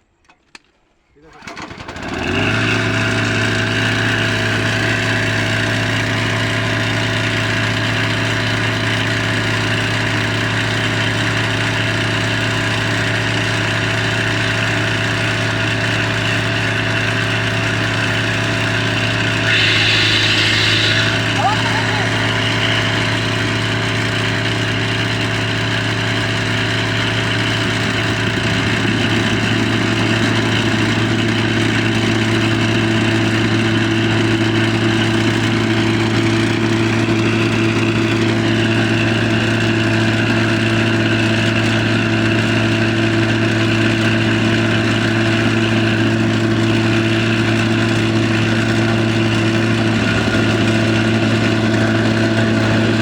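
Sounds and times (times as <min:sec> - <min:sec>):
small engine running: 0:01.4 - 0:53.0.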